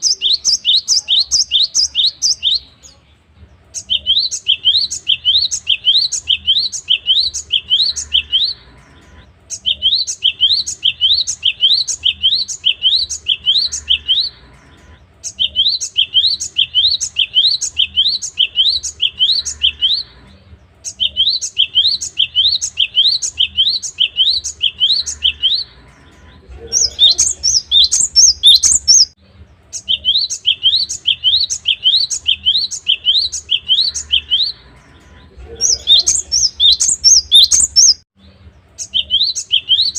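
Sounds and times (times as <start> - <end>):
bird singing rising notes: 3.8 - 39.9.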